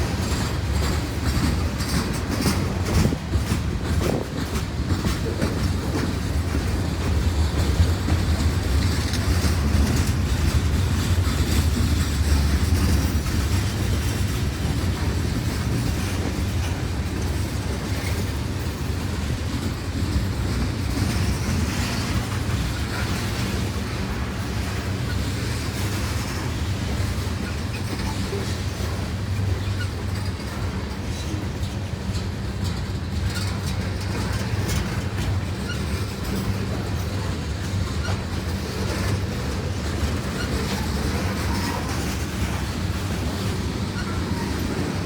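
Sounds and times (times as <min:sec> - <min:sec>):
freight train rumbling past: 0:00.0 - 0:45.0
wheels clacking over rails: 0:00.0 - 0:45.0.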